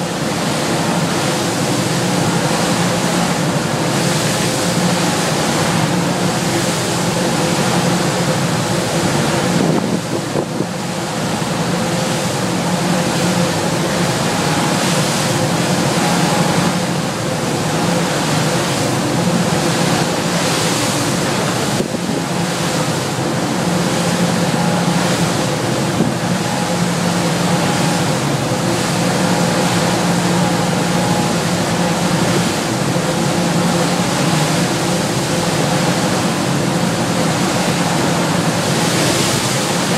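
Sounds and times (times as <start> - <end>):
boat engines droning: 0.0 - 39.9
wind and water rushing: 0.0 - 39.9.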